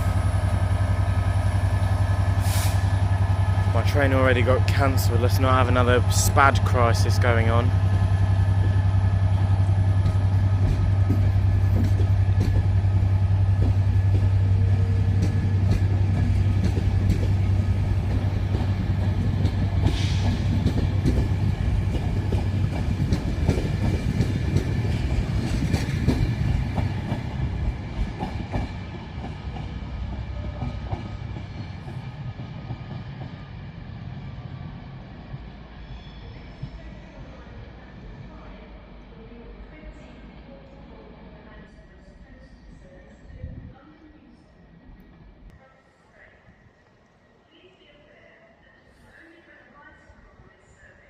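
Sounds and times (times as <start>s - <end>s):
train passing with low hum: 0.0s - 51.0s.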